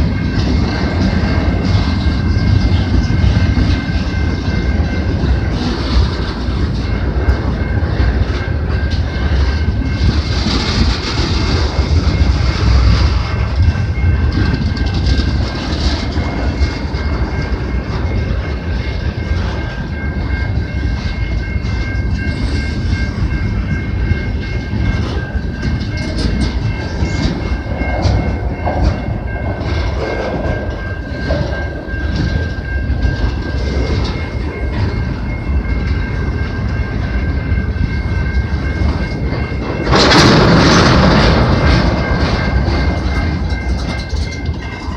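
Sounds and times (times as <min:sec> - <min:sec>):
freight train wheels clattering: 0:00.0 - 0:44.9.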